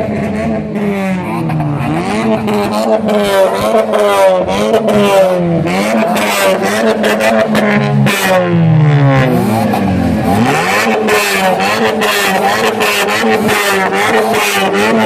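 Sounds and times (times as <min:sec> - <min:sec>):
car engine and exhaust crackling: 0:00.0 - 0:15.0.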